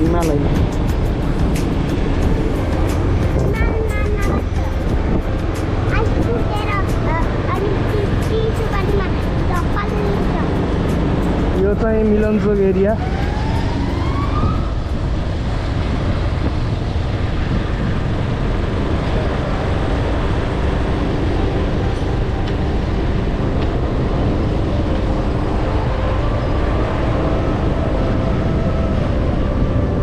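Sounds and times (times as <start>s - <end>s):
motorcycle engine hum: 0.0s - 30.0s
wind rumble: 0.0s - 30.0s.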